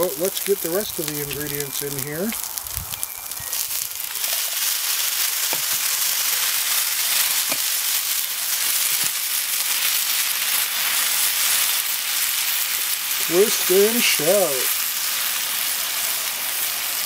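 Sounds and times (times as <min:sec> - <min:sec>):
tomatoes sizzling in skillet: 0:00.0 - 0:17.0.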